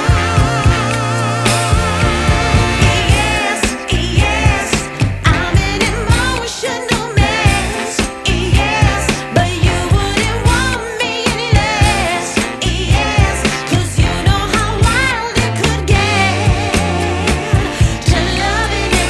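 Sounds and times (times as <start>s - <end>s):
singing over a steady beat: 0.0s - 19.0s.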